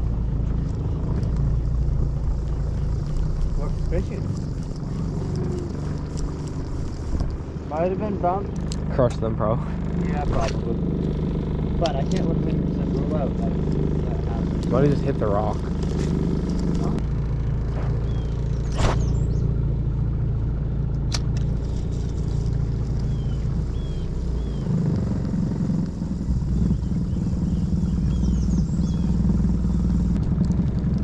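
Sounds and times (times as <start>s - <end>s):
boat motor droning: 0.0s - 31.0s.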